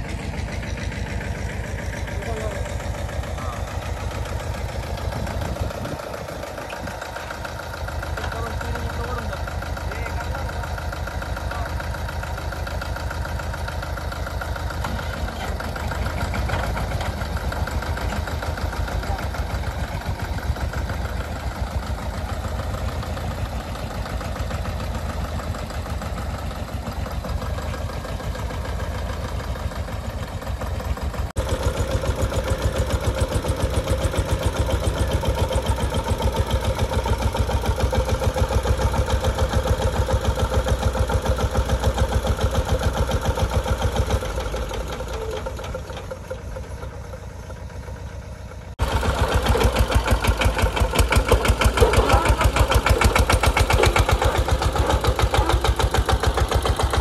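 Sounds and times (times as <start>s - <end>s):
diesel tractor engines under load: 0.0s - 57.0s.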